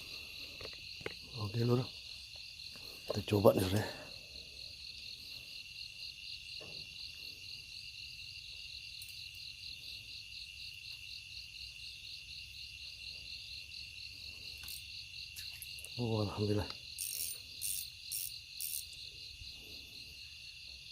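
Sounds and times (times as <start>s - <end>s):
insect continuous high trill: 0.0s - 20.9s.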